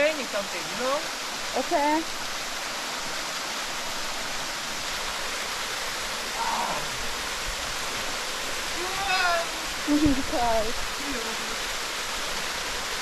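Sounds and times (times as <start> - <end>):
water pouring over rocks: 0.0 - 13.0.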